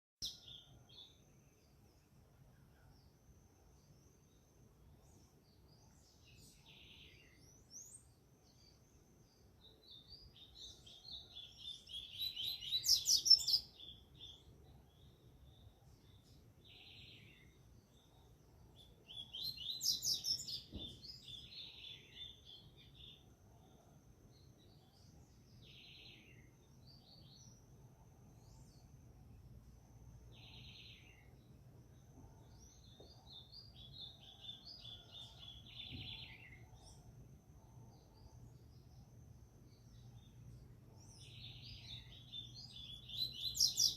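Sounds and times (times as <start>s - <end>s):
bird twittering song: 0.2s - 43.9s.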